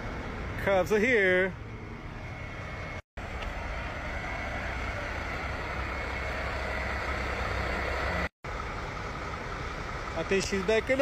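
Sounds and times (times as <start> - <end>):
street noise: 0.0 - 11.0
diesel truck engine idling: 0.1 - 11.0.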